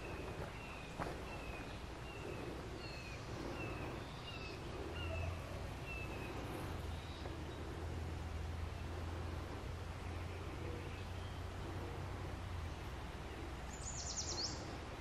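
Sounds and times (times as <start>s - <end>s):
faint woodland hiss: 0.0s - 15.0s.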